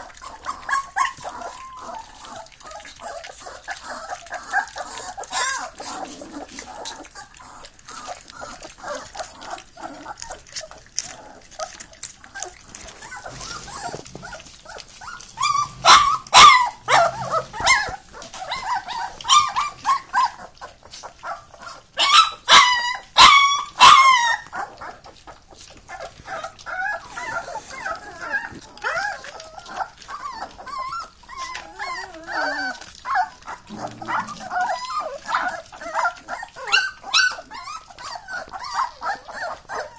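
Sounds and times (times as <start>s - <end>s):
puppies eating wet smacking: 0.0s - 39.9s
puppies whining and yelping: 0.0s - 39.9s.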